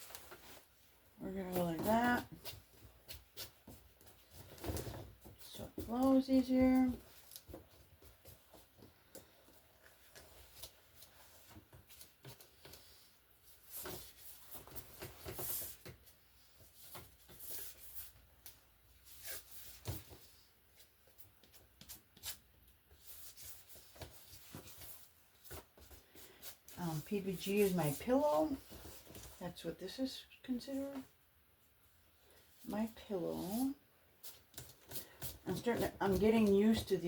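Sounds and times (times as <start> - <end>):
hands handling canvas and paint: 0.0 - 37.0.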